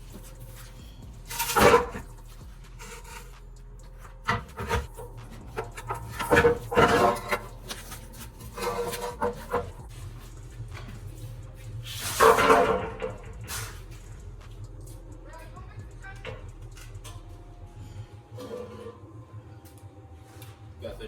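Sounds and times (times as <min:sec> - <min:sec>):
metal knocking: 0:00.0 - 0:17.5
metal scraping: 0:00.0 - 0:21.0.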